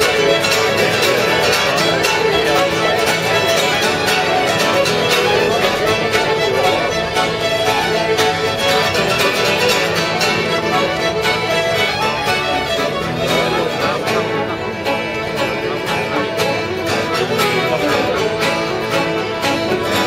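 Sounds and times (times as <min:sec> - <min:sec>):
fiddles playing lively tune: 0:00.0 - 0:20.0
strummed acoustic guitar: 0:00.0 - 0:20.0.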